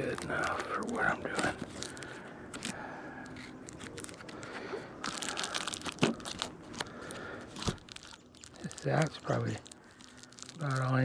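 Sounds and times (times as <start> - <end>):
crinkling and rustling handling: 0.0 - 11.0.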